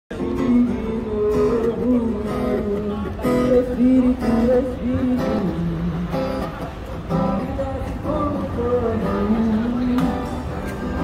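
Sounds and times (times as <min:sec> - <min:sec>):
acoustic guitar strumming: 0:00.1 - 0:11.0.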